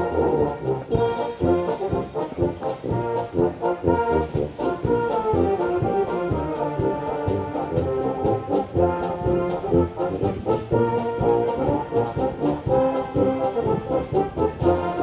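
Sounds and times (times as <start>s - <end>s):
brass band playing: 0.0s - 15.0s
tuba bass line: 0.0s - 15.0s.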